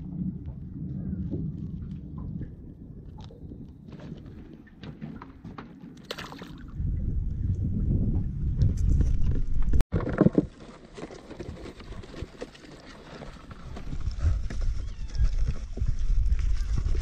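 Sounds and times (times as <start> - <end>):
wind rumbling on microphone: 0.0 - 9.8, 11.4 - 17.0.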